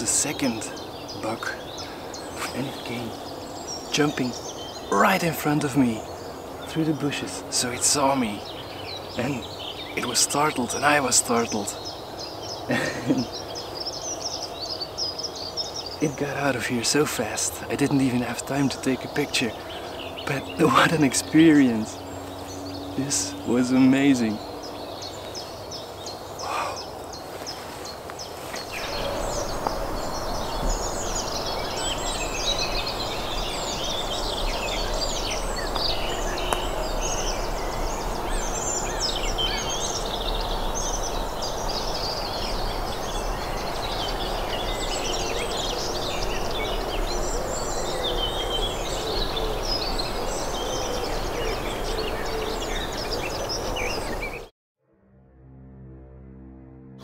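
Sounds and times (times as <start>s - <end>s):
songbirds chirping and trilling: 0.0s - 54.5s.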